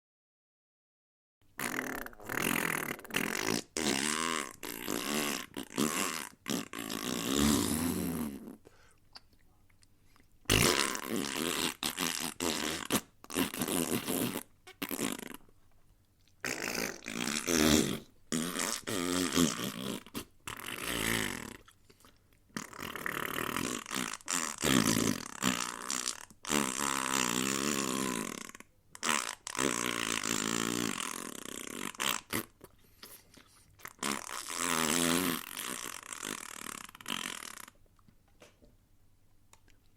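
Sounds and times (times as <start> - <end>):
lips blowing raspberries: 1.6 - 15.6, 16.2 - 38.5.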